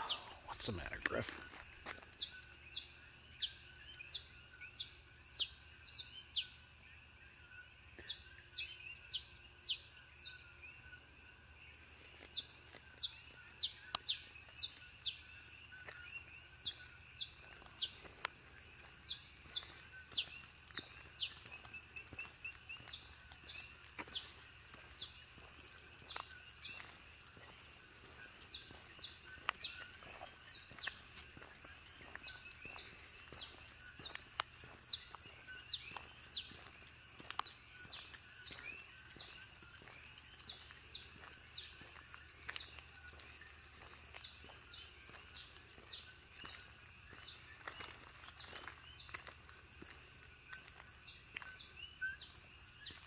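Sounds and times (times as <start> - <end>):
birds chirping: 0.0 - 11.1, 11.9 - 49.3.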